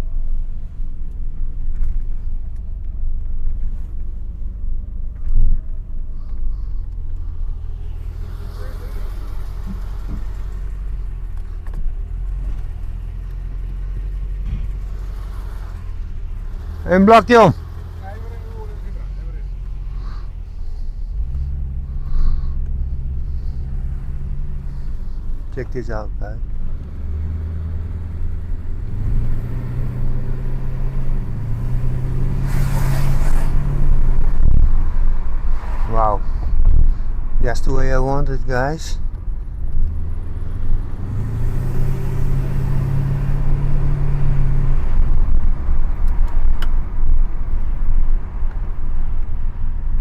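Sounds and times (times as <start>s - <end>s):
car exhaust low rumble: 0.0s - 50.0s.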